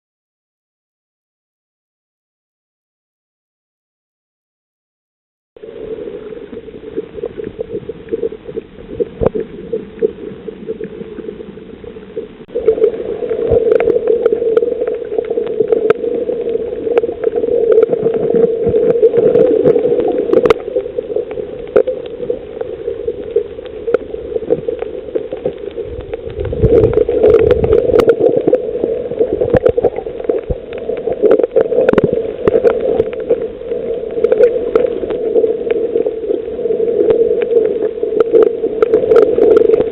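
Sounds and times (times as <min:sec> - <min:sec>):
low underwater hum: 0:05.6 - 0:39.9
reef clicks and crackles: 0:05.6 - 0:39.9.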